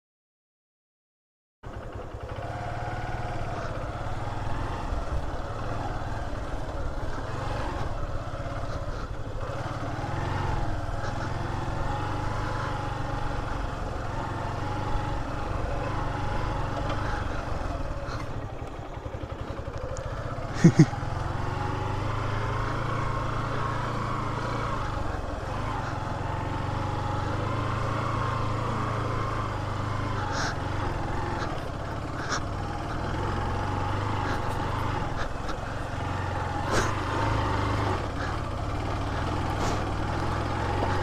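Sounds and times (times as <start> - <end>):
motorcycle engine running: 1.6 - 41.0.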